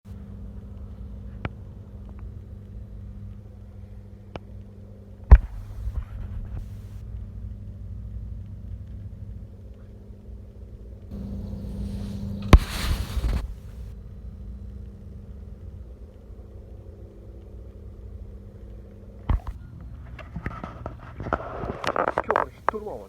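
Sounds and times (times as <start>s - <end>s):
low rumble with faint hum: 0.1s - 23.0s.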